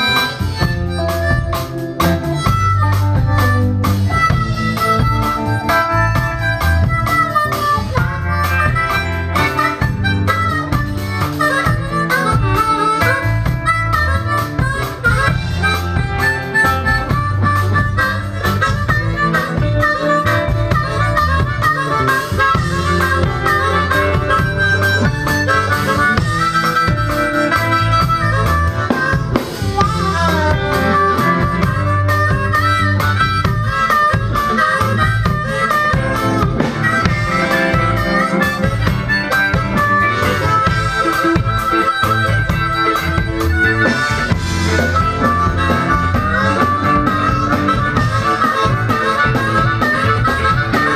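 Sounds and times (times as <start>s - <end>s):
bass guitar: 0.0s - 50.9s
drum kit: 0.0s - 50.9s
electric guitar: 0.0s - 50.9s
harmonica solo: 0.0s - 50.9s.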